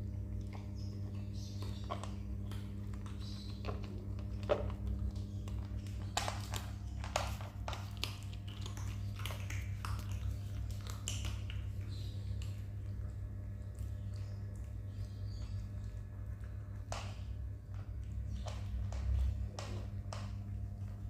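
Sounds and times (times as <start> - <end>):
kittens chewing food on dish: 0.0 - 21.0
steady low hum: 0.0 - 21.0.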